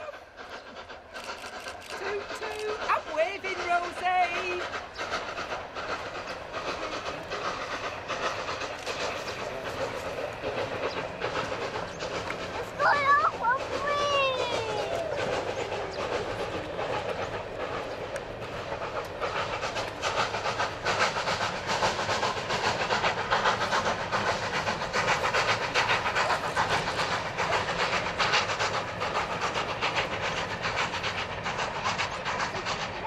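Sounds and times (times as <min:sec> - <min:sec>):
steam locomotive exhaust beats: 0:00.0 - 0:33.0
wheels clattering on rails: 0:00.0 - 0:33.0.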